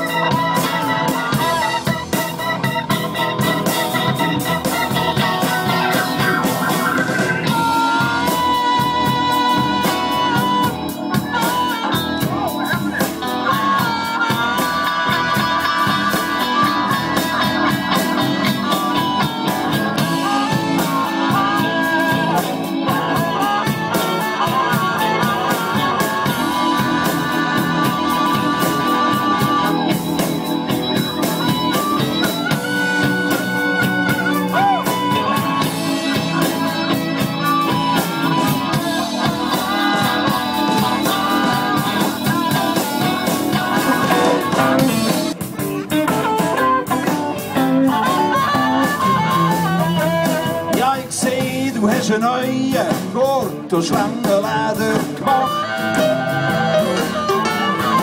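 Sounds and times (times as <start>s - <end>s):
blues band playing: 0.0s - 58.0s
electric guitar bending notes: 0.0s - 58.0s.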